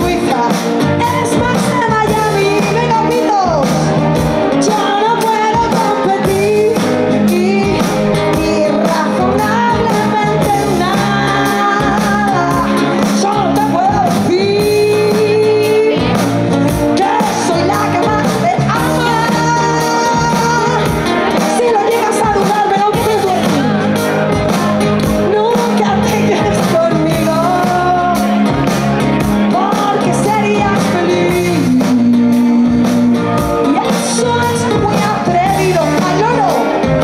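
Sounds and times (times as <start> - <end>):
drums with steady beat: 0.0 - 37.0
electric guitar: 0.0 - 37.0
woman singing pop-rock song: 0.0 - 37.0.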